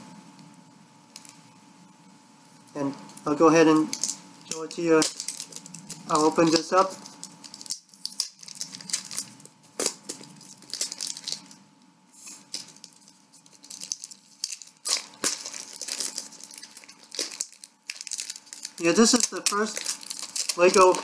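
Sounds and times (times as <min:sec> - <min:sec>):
plastic crinkling and crackling: 0:02.7 - 0:11.6, 0:12.2 - 0:21.0.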